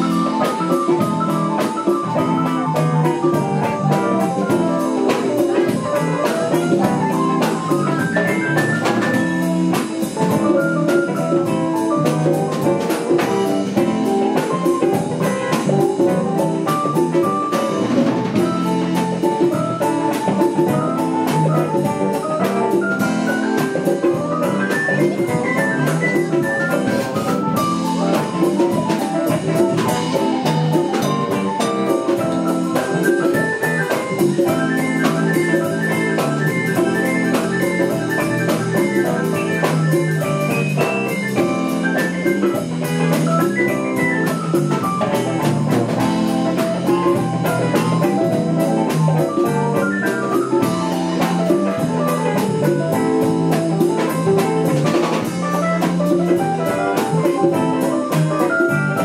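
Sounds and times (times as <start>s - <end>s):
bass: 0.0s - 59.0s
drum kit beat: 0.0s - 59.0s
keyboards: 0.0s - 59.0s
melodic solo line: 0.0s - 59.0s.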